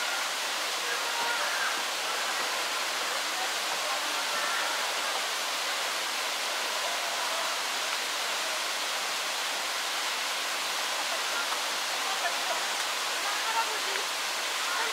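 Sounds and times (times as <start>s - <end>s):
running water rushing: 0.0s - 14.9s.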